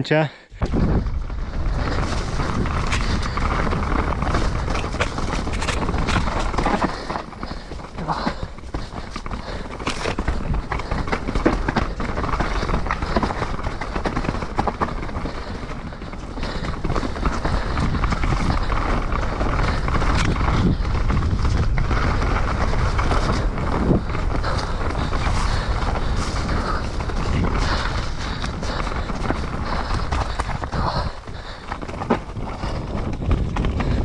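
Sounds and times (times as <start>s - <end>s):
bike tyre and wind rush: 0.0s - 34.0s
bike knocks and rattles: 0.7s - 34.0s.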